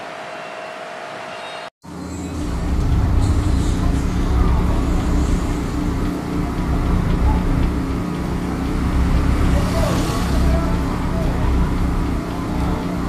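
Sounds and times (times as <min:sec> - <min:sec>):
vehicle engine rumble: 0:01.8 - 0:13.0.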